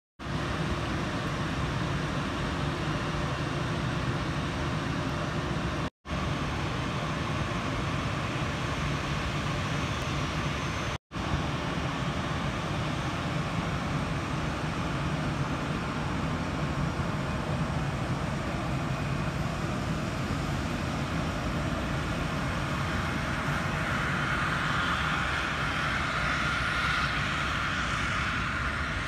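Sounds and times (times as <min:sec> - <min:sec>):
jet engines running: 0:00.2 - 0:29.0.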